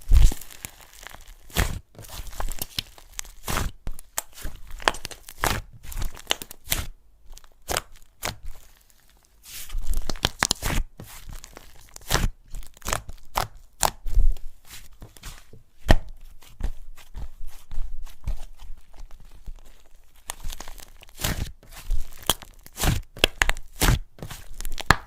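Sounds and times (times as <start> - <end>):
slime crackling and popping: 0.0 - 16.2, 18.8 - 25.0.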